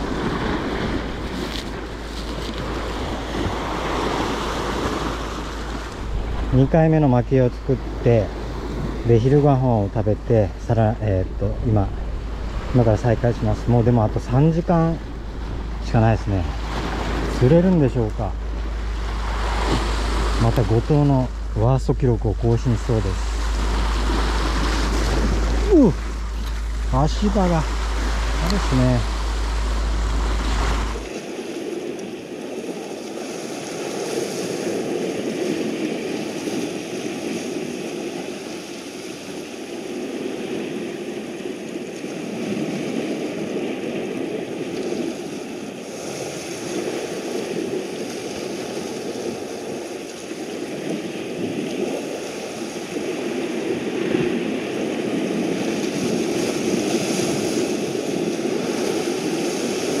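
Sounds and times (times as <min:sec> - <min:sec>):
sea waves against rocks: 0:00.0 - 1:00.0.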